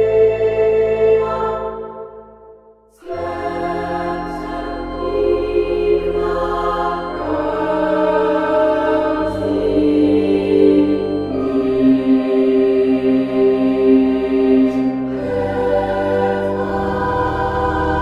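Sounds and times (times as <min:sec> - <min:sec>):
music with slow held chords: 0:00.0 - 0:18.0.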